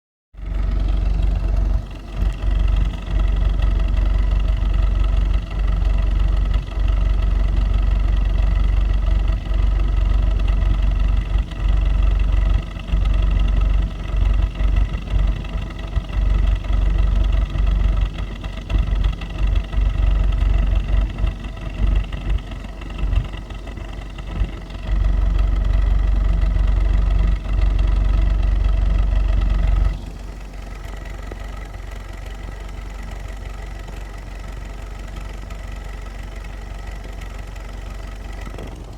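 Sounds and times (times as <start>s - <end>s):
car engine idling: 0.3s - 38.9s.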